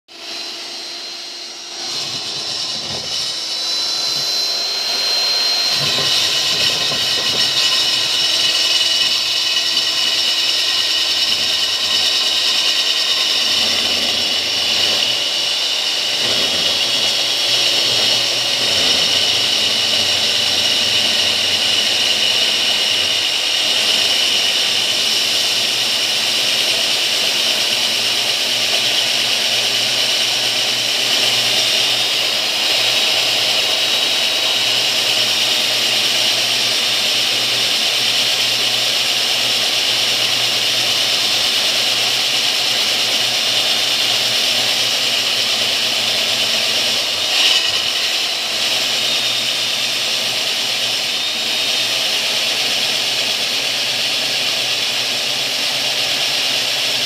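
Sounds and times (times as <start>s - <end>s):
core drill whining into concrete: 0.1s - 57.0s.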